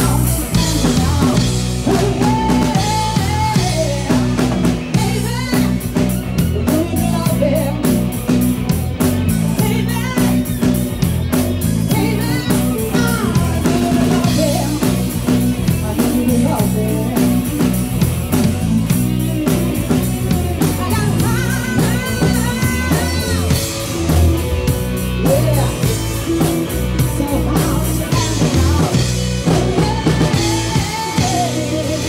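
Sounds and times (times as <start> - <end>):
woman singing: 0.0 - 8.5, 9.3 - 10.7, 11.8 - 32.0
drum kit steady beat: 0.0 - 32.0
electric guitar: 0.0 - 32.0.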